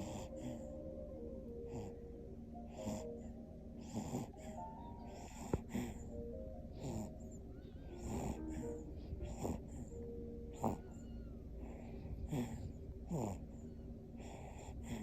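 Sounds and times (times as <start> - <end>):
baby snoring: 0.0 - 0.8, 1.5 - 15.0
soft background music: 0.0 - 15.0.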